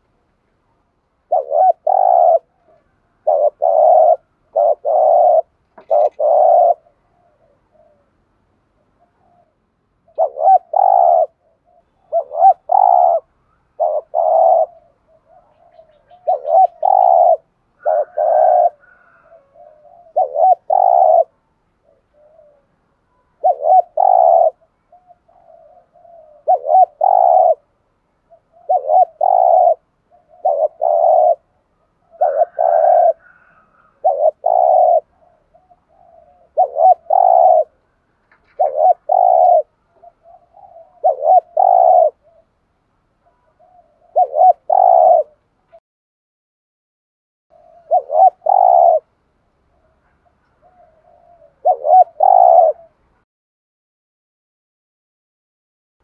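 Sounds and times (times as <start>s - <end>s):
dove cooing: 1.2s - 42.6s, 43.2s - 45.8s, 47.5s - 49.1s, 49.7s - 53.2s.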